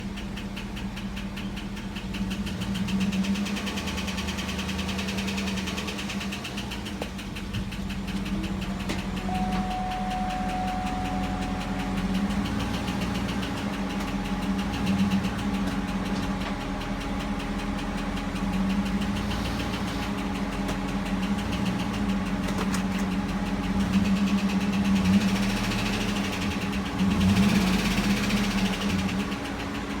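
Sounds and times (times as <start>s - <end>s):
engine hum: 0.0s - 30.0s
fast even engine ticking: 0.0s - 30.0s.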